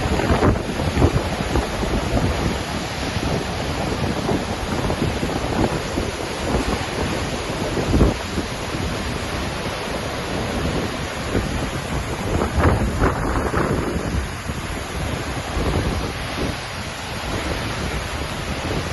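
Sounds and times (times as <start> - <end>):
waterfall roaring: 0.0 - 18.9.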